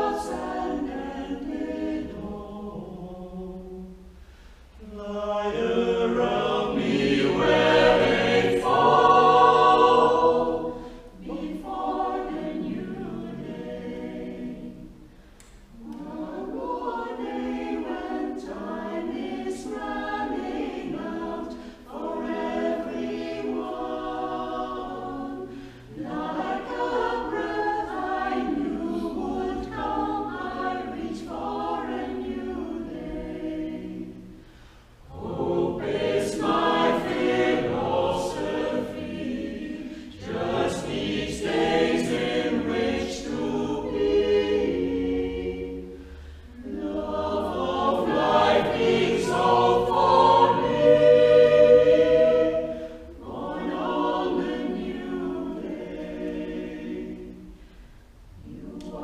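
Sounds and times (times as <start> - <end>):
mixed choir singing in harmony: 0.0 - 59.0.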